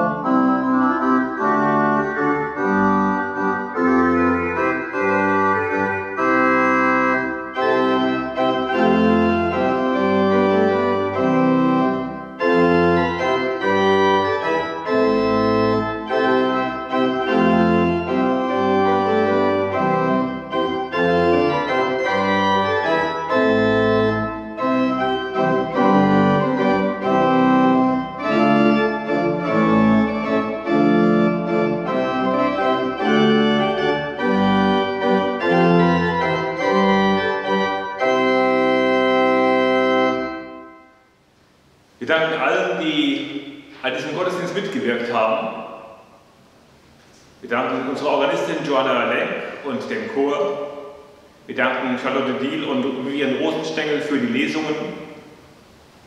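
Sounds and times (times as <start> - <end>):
pipe organ chords: 0.0 - 56.0.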